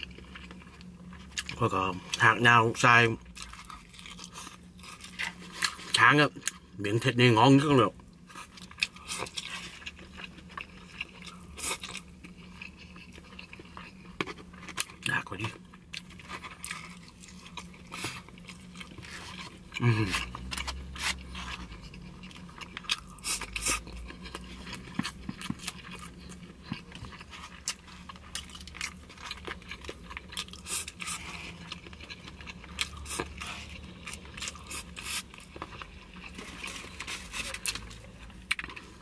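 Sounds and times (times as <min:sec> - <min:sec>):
close chewing: 0:00.0 - 0:02.3, 0:03.3 - 0:06.6, 0:07.9 - 0:39.0.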